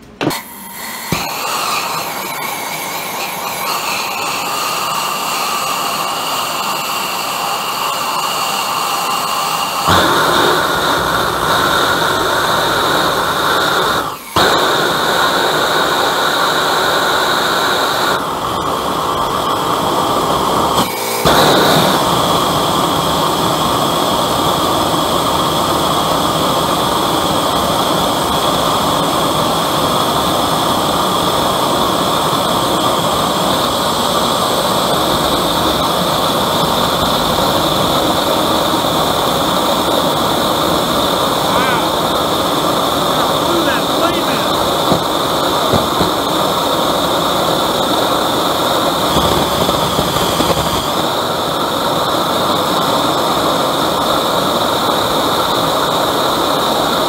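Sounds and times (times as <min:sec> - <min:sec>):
forge burner hissing: 0:00.0 - 0:57.0.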